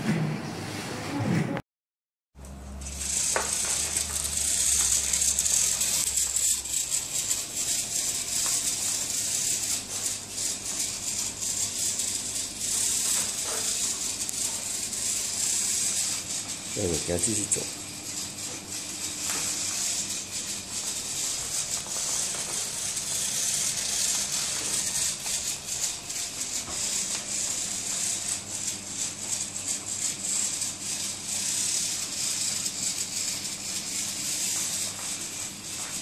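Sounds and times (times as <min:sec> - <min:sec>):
small robot motors rattling buzz: 0:02.5 - 0:36.0.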